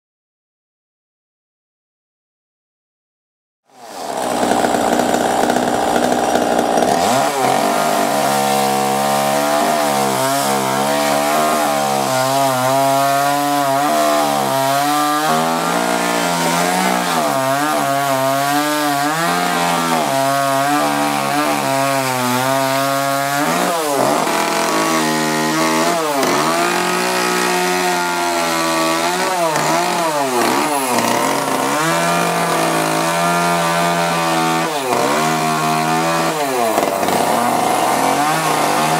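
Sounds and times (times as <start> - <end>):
chainsaw cutting wood: 3.7 - 38.9.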